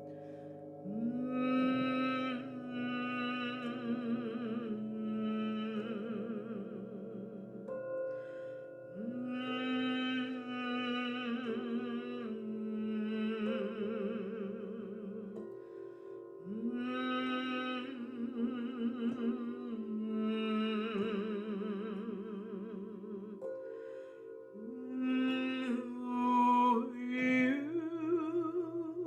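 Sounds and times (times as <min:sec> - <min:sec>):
woman singing long notes: 0:00.8 - 0:07.5, 0:08.9 - 0:15.5, 0:16.4 - 0:29.0.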